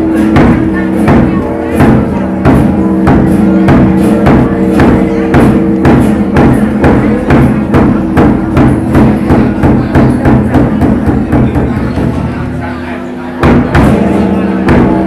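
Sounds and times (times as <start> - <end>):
wood-block strokes: 0.0 - 12.6
drum strokes: 0.0 - 15.0
held instrumental notes: 0.0 - 15.0.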